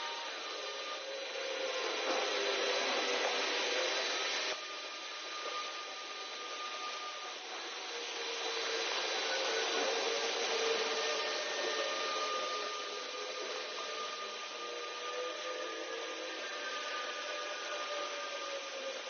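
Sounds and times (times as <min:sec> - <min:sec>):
faint whine tones: 0:00.0 - 0:19.0
laser cleaning machine hiss: 0:00.0 - 0:19.0.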